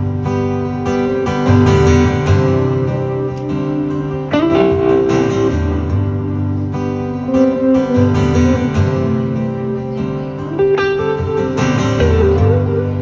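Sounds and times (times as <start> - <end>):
electric guitar sustained notes: 0.0 - 13.0.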